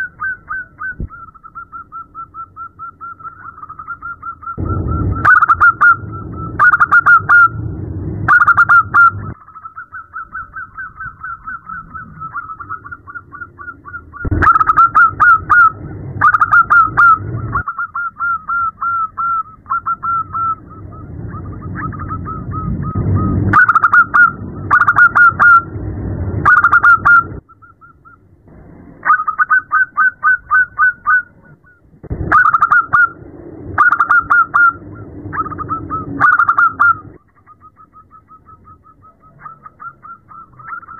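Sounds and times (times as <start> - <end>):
dove cooing: 0.0 - 25.8, 26.4 - 28.3, 29.0 - 40.9.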